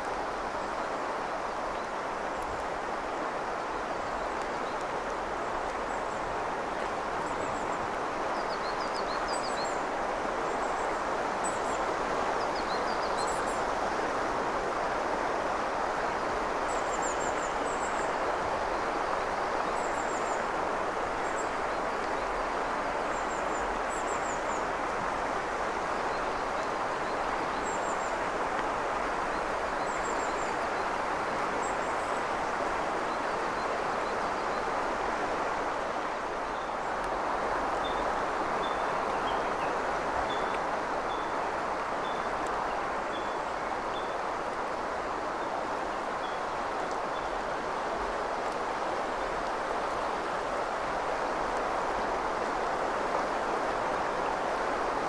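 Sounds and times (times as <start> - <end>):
river running over stones: 0.0 - 55.0.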